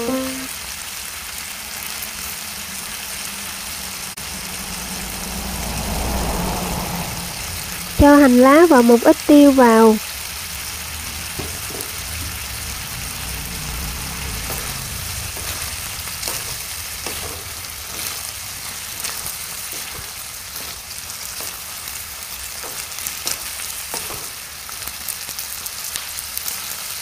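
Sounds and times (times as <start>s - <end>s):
food sizzling in a pan: 0.0s - 7.9s, 10.1s - 27.0s.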